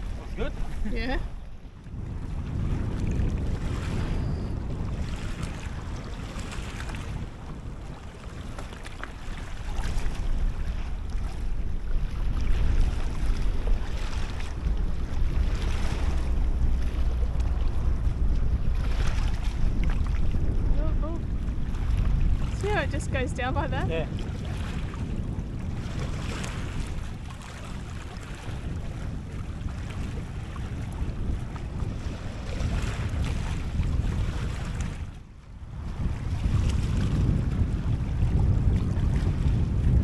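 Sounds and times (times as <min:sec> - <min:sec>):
small waves washing: 0:00.0 - 0:04.2, 0:04.9 - 0:39.6
wind gusting across microphone: 0:00.0 - 0:40.0.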